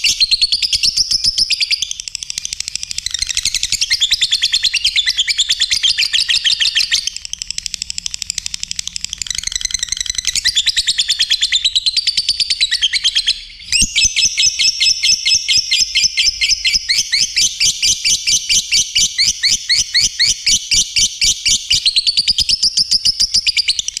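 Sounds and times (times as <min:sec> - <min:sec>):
lovebird chirping: 0:00.0 - 0:24.0.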